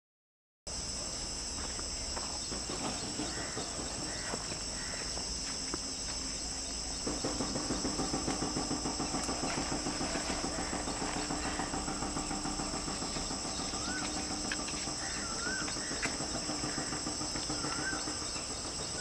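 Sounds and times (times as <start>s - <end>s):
insects chirring: 0.7s - 19.0s
low rhythmic pulsing: 0.8s - 19.0s.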